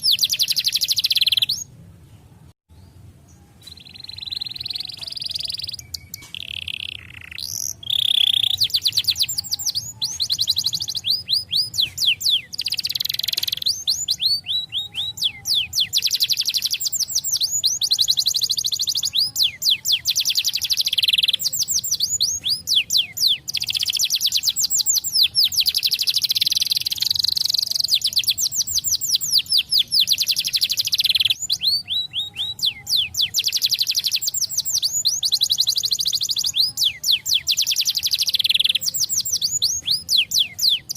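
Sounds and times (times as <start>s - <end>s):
canary singing trills: 0.0s - 1.8s, 2.8s - 40.9s.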